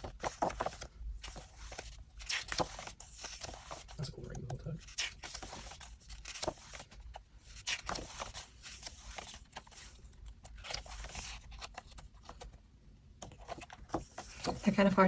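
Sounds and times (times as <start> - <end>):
pages of photobook turning: 0.0 - 12.6.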